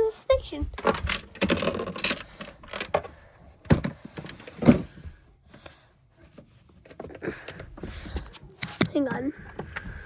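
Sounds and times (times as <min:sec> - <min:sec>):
hard plastic parts knocking: 0:00.3 - 0:10.0.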